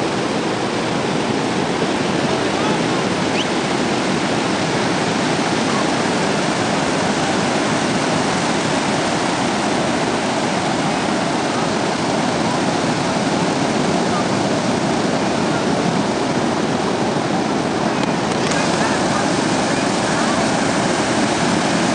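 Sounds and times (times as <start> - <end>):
ocean surf breaking: 0.0 - 21.9.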